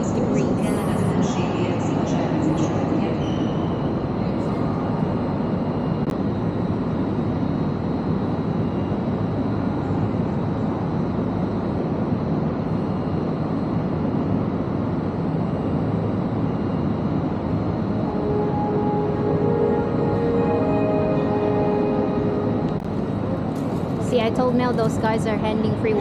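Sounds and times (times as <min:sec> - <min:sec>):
railway station ambience: 0:00.0 - 0:26.0.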